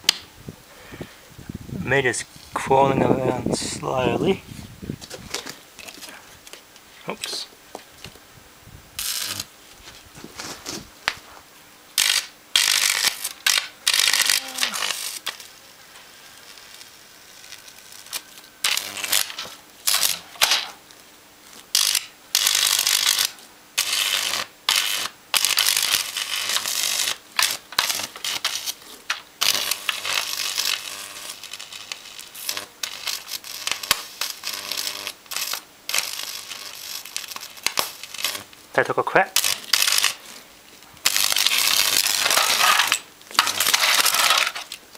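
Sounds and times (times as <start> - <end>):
electrical arcing crackling and buzzing: 0.0 - 44.9
faint mains hum: 0.0 - 44.9.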